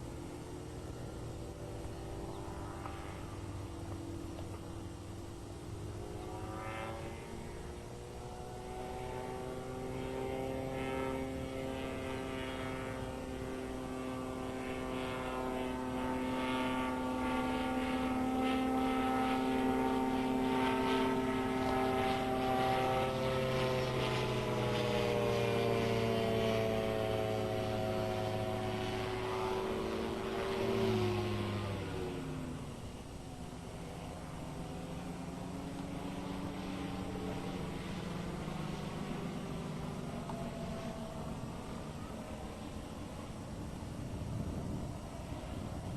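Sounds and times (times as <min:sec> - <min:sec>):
light aircraft propeller engine: 0:00.0 - 0:45.9.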